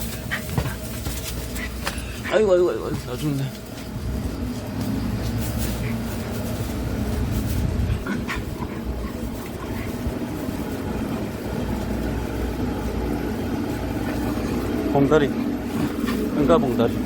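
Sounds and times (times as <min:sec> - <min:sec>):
low rumble: 0:03.0 - 0:17.0.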